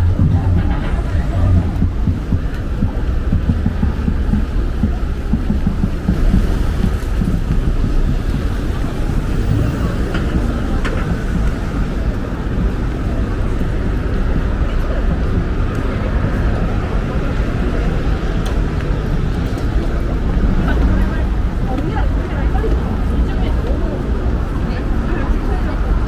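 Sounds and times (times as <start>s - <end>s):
passers-by talking: 0.0s - 26.0s
traffic rumble: 0.0s - 26.0s.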